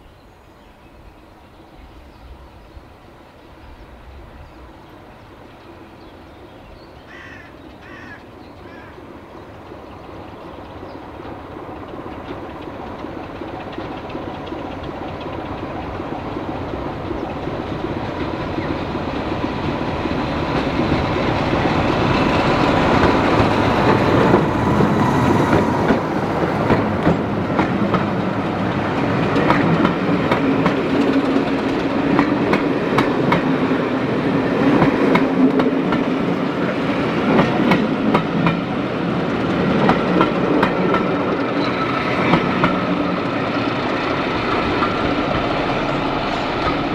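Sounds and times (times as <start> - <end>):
diesel locomotive engine: 0.0 - 46.9.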